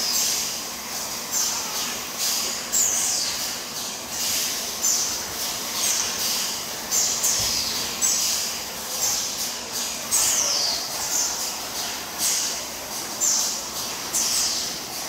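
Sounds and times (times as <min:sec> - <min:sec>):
machine chirp-like hiss: 0:00.0 - 0:15.0
steady machine noise: 0:00.0 - 0:15.0.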